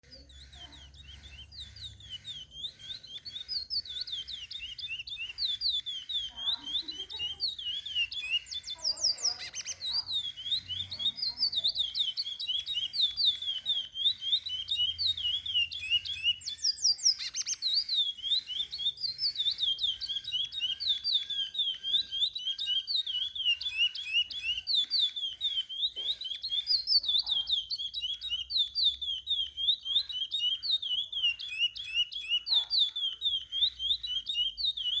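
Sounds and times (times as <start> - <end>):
finch singing whistled notes: 0.0 - 35.0.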